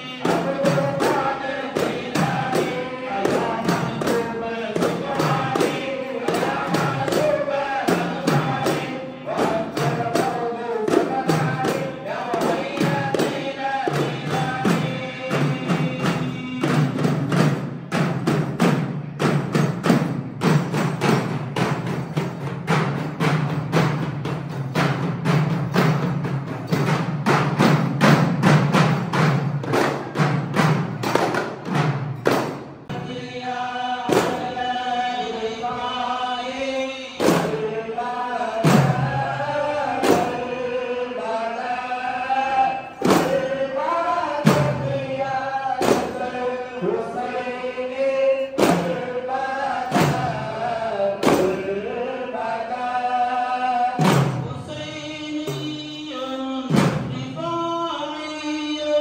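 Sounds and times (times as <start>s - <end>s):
frame drums beaten fast: 0.0s - 58.6s
men chanting devotional song: 0.0s - 59.0s.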